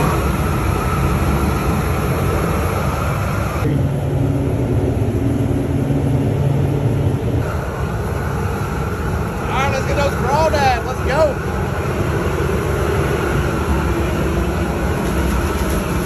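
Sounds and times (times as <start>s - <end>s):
propane burner roaring: 0.0s - 16.0s
steady low hum: 0.0s - 16.0s.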